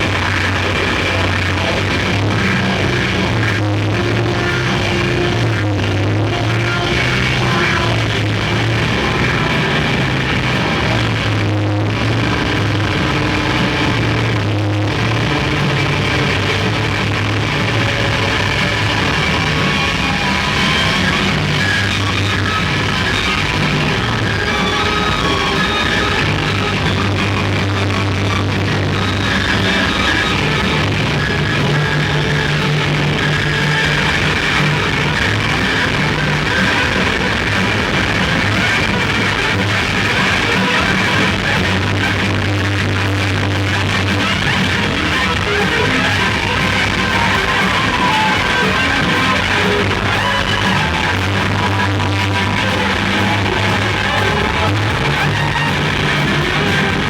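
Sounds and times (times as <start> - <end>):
distorted electric guitars: 0.0 - 57.0
rock band playing live: 0.0 - 57.0
sustained bass notes: 0.0 - 57.0.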